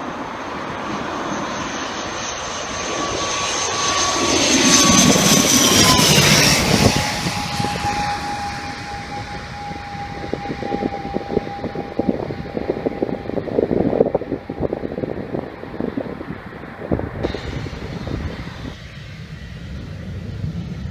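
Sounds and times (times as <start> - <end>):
turboprop airliner flying overhead: 0.0 - 20.9.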